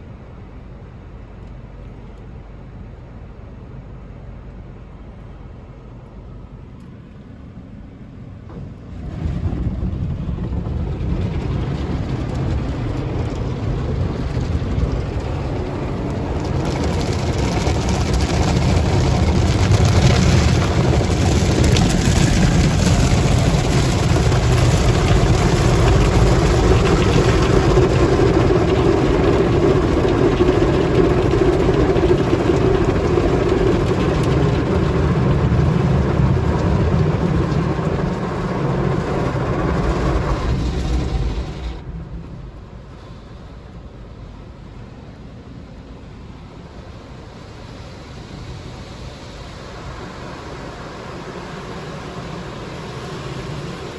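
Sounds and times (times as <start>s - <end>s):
car wash machinery rumble: 0.0s - 53.9s.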